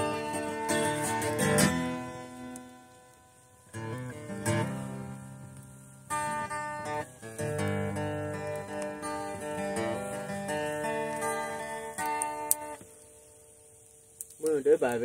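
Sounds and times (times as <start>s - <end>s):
acoustic guitar strummed: 0.0s - 12.8s.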